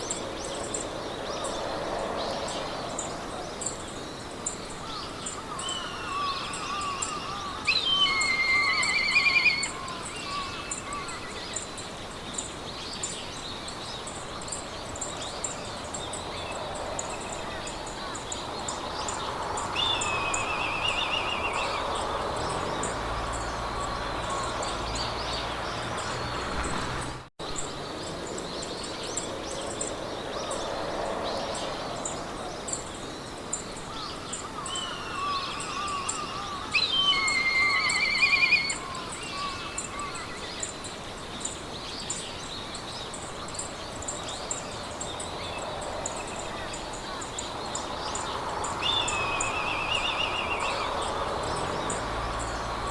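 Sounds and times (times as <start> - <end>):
rapid high insect chirping: 0.0 - 26.0, 29.6 - 52.9
birds singing: 0.0 - 52.9
wind through grass: 0.0 - 52.9.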